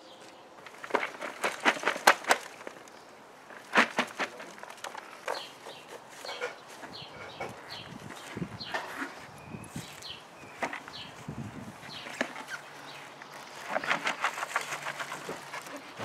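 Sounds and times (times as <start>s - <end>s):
bird calls: 0.0s - 16.0s.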